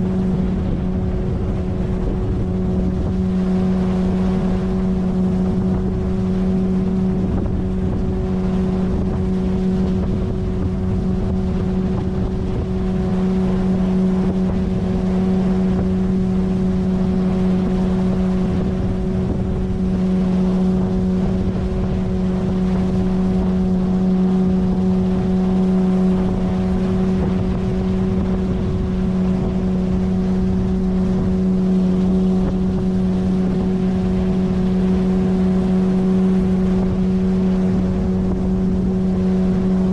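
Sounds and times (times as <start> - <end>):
outboard motor humming: 0.0 - 39.9
wind and water rush: 0.0 - 39.9.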